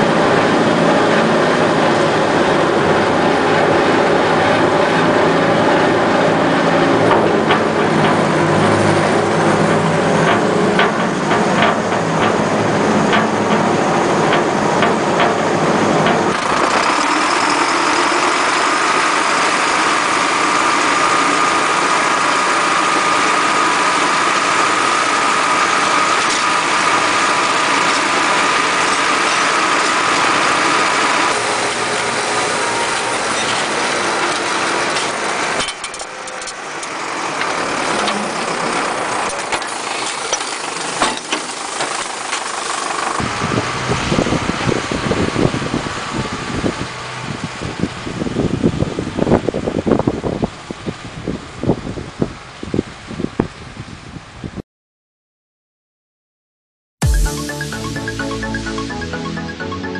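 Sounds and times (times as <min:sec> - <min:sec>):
tractor diesel engine running: 0:00.0 - 0:51.8.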